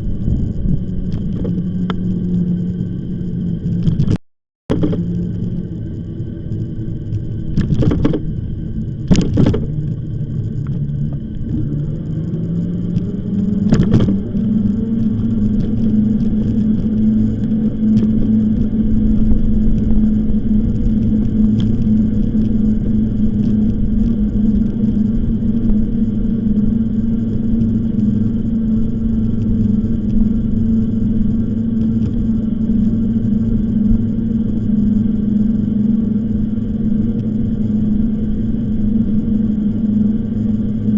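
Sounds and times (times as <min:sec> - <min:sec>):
e-bike motor hum: 0:00.0 - 0:40.9
wind and tyre rumble: 0:00.0 - 0:40.9.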